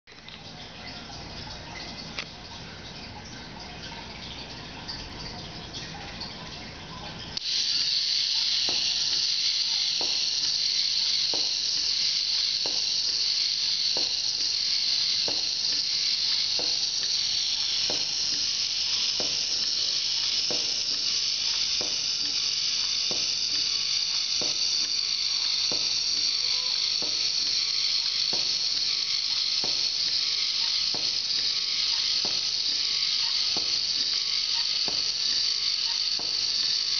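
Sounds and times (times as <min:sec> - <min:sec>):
toy motor and gears whirring: 0:00.1 - 0:36.9.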